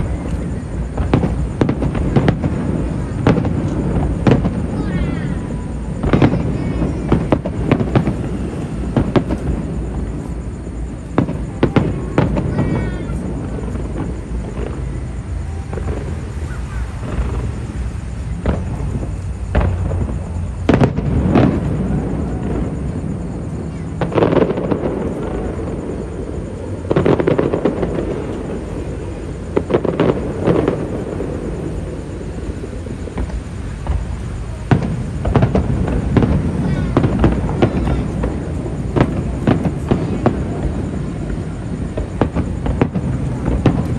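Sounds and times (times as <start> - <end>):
fireworks bangs and pops: 0.0 - 43.9.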